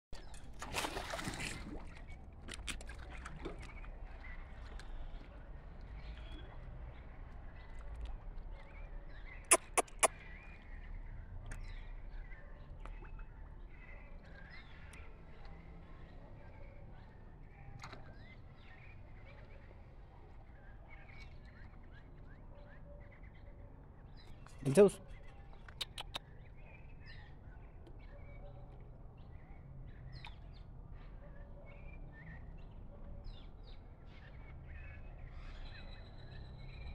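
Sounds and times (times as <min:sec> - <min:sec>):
faint bird chirping: 0:03.6 - 0:36.9.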